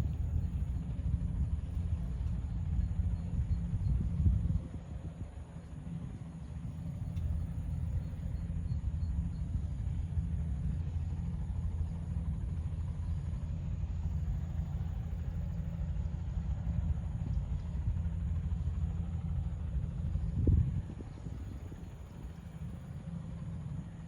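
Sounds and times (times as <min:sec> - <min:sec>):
helicopter rotor and engine: 0:00.0 - 0:24.0.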